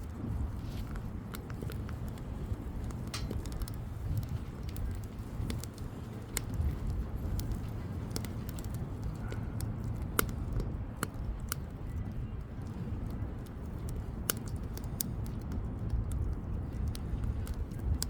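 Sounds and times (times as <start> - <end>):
firewood crackling and popping: 0.0 - 18.0
low rumble of bonfire: 0.0 - 18.0.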